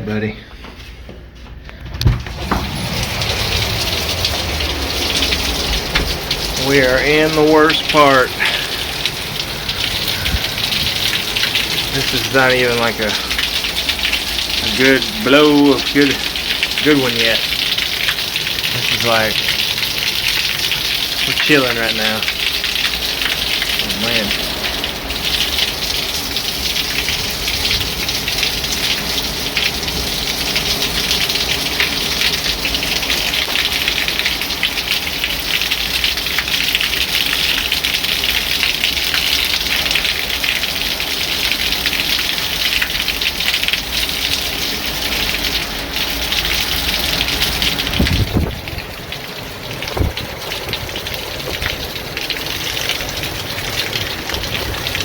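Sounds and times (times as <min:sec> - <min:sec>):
torrential rain pouring: 0:02.0 - 0:55.0.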